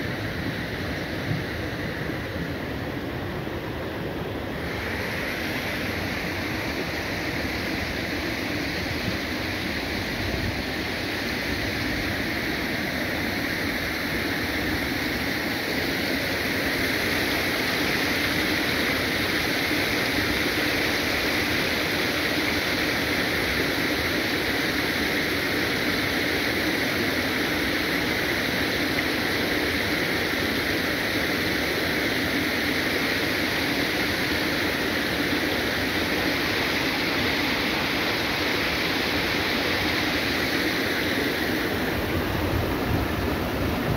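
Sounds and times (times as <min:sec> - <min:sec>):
water rushing through a channel: 0:00.0 - 0:43.9.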